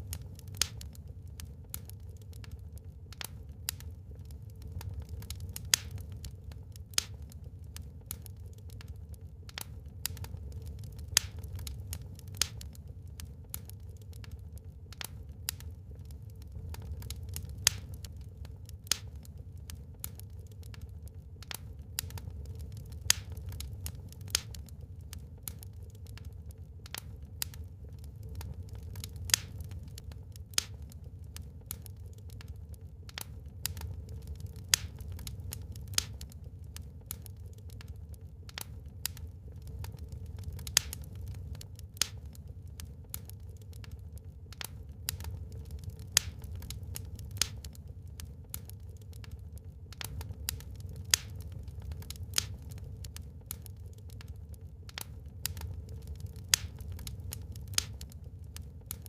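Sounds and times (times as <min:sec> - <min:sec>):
wood fire burning and crackling: 0:00.0 - 0:59.0.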